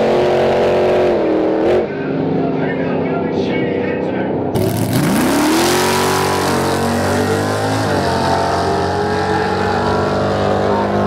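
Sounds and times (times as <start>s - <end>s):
drag racing cars accelerating: 0.0s - 11.0s.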